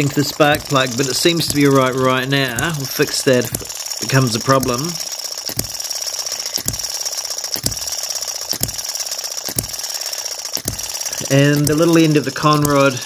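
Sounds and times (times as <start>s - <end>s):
light engine knock: 0.0s - 5.9s, 6.6s - 9.9s, 10.5s - 13.0s
model engine firing: 0.0s - 13.0s
rapid mechanical ticking: 0.0s - 13.0s.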